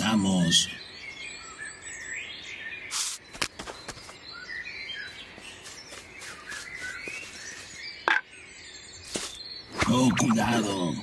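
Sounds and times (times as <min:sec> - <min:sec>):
forest birds chirping: 0:00.0 - 0:11.0.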